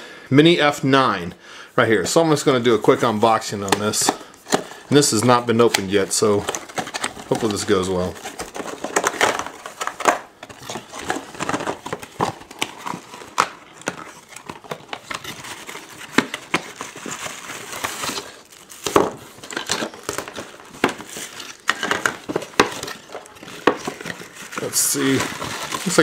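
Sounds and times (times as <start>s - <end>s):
plastic packaging crinkling: 3.2s - 26.0s.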